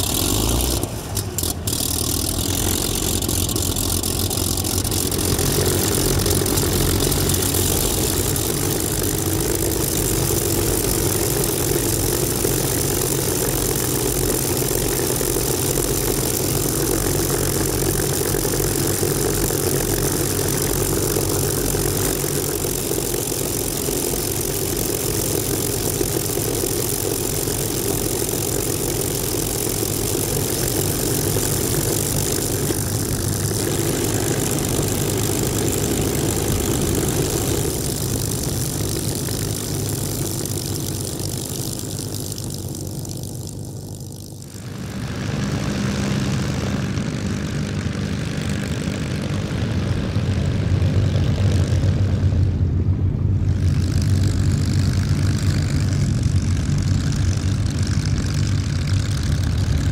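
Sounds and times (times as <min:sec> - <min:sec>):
propeller plane engine idling: 0:00.0 - 0:59.9.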